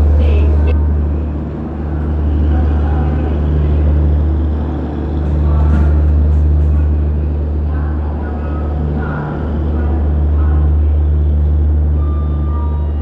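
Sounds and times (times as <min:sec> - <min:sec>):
diesel generator drone: 0:00.0 - 0:13.0.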